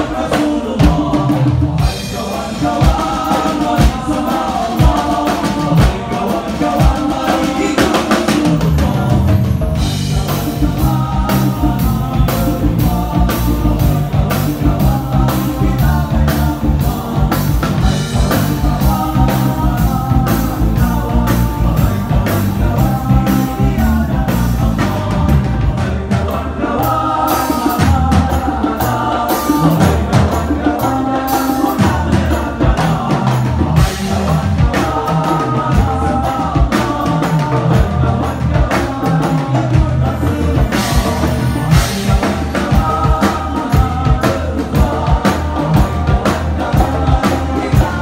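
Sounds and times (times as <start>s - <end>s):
live band with group singing: 0.0s - 48.0s.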